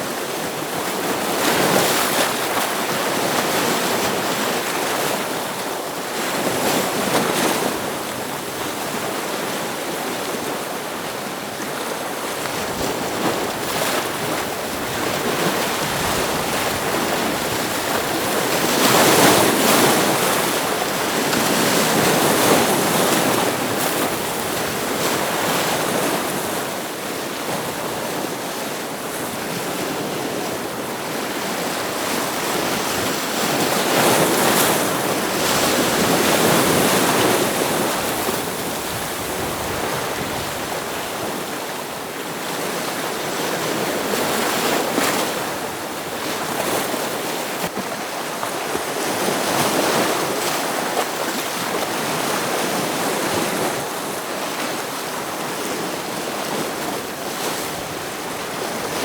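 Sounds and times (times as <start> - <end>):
ocean waves breaking against rocks: 0.1 - 59.0.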